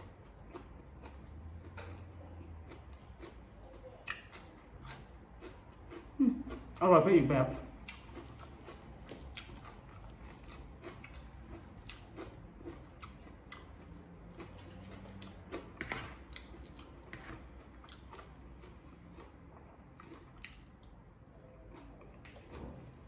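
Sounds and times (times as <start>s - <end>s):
person chewing crunchy food: 0.0s - 6.8s, 7.4s - 23.0s.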